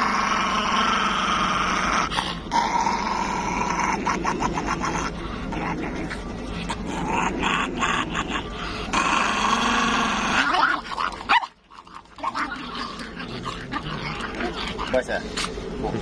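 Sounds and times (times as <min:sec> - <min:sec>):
dog growling: 0:00.0 - 0:16.0.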